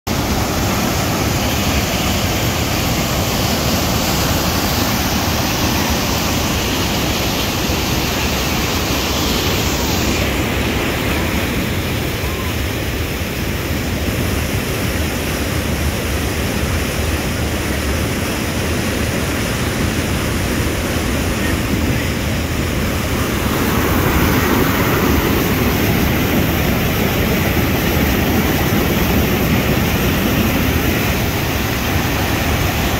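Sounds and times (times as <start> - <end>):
whitewater roaring over rapids: 0.1 - 32.9.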